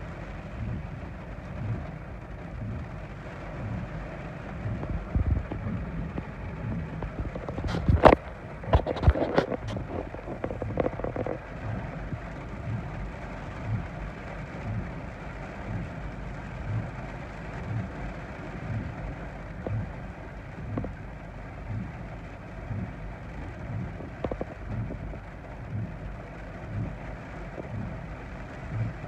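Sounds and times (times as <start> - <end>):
heavy rain on a car: 0.0 - 29.0
windshield wipers thudding: 0.0 - 29.0.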